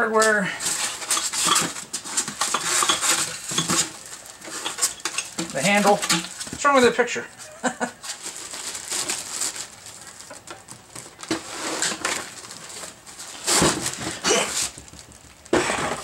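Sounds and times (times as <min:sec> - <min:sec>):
packing material rustling: 0:00.6 - 0:16.0.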